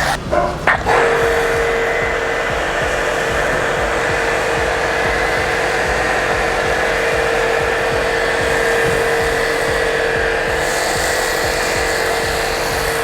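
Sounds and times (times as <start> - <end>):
continuous spray hiss: 0.0 - 13.0
pressure washer motor hum: 0.0 - 13.0.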